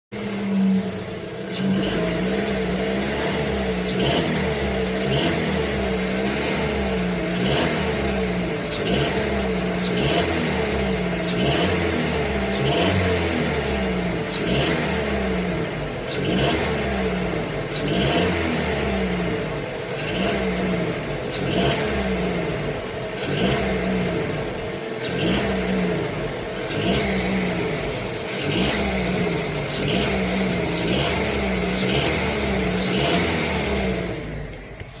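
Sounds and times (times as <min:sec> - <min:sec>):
car engine revving in blips: 0:00.0 - 0:35.0.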